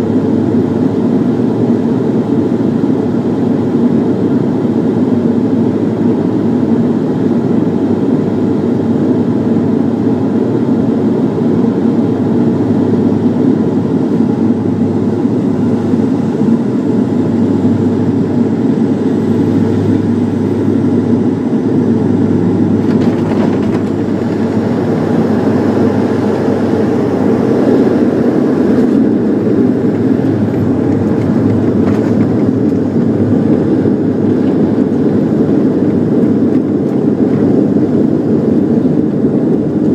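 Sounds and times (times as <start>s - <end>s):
aircraft engines and propellers: 0.0s - 39.9s
loud turboprop cabin noise: 0.0s - 39.9s.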